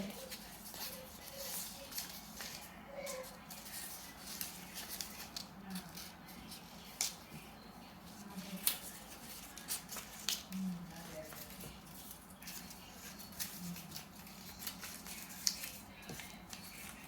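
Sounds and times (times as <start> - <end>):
paper crinkling: 0.0 - 7.5, 8.1 - 17.0
paper rustling: 0.0 - 17.0.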